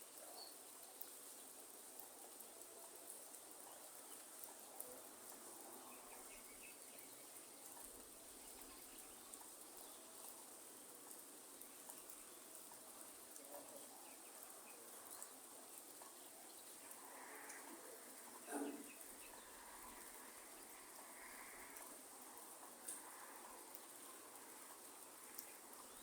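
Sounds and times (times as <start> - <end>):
light rain ticking: 0.0 - 26.0.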